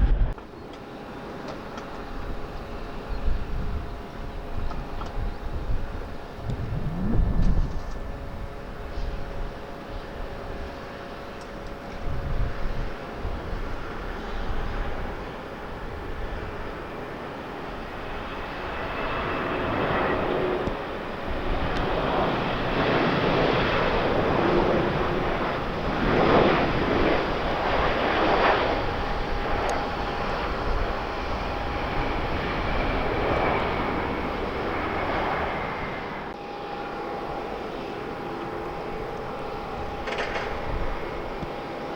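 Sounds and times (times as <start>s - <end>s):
wind buffeting microphone: 0.0s - 0.4s, 1.8s - 36.4s, 37.7s - 41.9s
airliner engines roaring: 0.0s - 41.9s.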